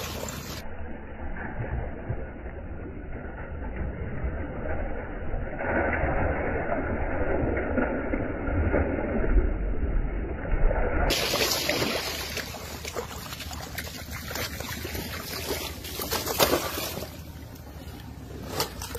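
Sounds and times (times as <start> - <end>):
fish thrashing and splashing water: 0.0 - 18.9
low rumble: 0.0 - 18.9.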